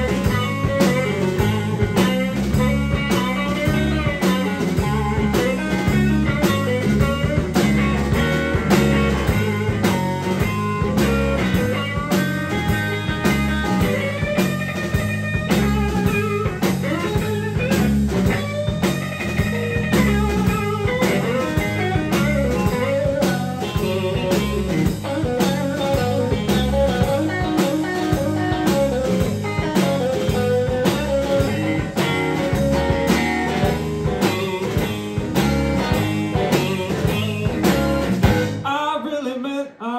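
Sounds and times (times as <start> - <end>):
steady drum beat: 0.0 - 38.6
electric guitar bending notes: 0.0 - 38.7.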